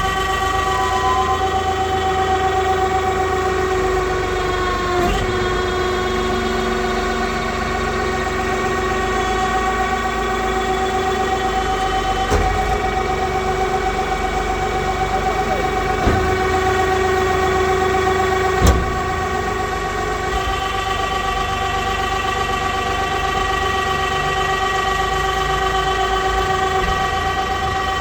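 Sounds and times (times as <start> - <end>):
baling press machine humming: 0.2 - 24.2.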